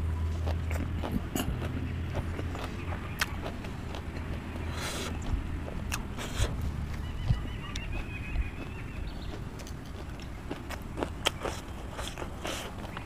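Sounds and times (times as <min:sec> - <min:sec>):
person chewing and smacking: 0:00.0 - 0:13.0.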